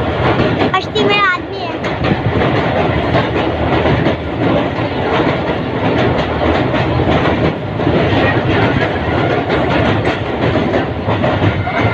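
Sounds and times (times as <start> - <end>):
clickety-clack over rail joints: 0.0 - 11.9
train wheels rumbling on rails: 0.0 - 11.9.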